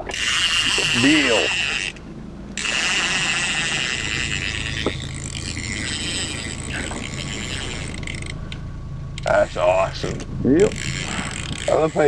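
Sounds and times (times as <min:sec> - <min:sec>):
small outboard motor running: 0:00.0 - 0:12.0.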